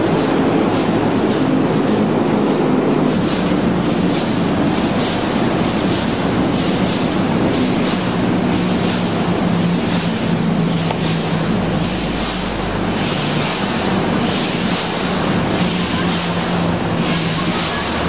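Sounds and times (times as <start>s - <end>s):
large engine humming: 0.0s - 18.0s.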